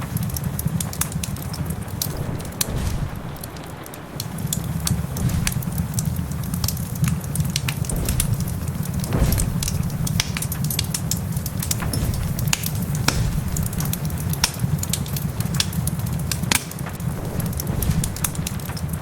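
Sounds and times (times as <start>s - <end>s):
rain hissing: 0.0s - 19.0s
wood fire crackling and popping: 0.0s - 19.0s.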